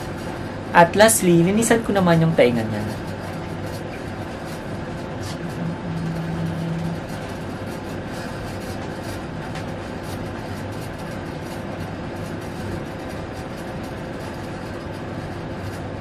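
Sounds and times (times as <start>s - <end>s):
machine hum and hiss: 0.0s - 16.0s.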